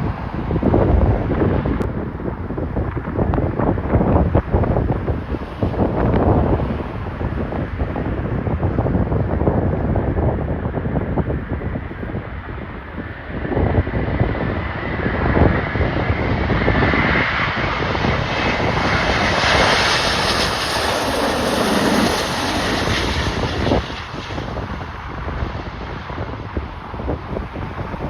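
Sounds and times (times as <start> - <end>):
gusty wind on microphone: 0.0 - 28.0
jet airliner engine whine: 0.0 - 28.0.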